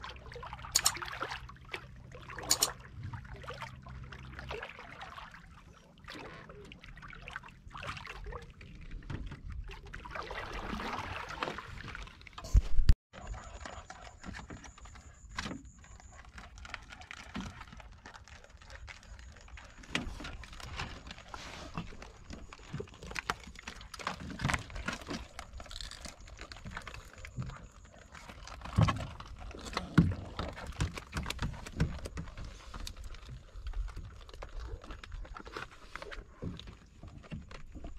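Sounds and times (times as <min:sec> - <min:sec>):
fish being handled in boat hold: 0:00.0 - 0:37.9.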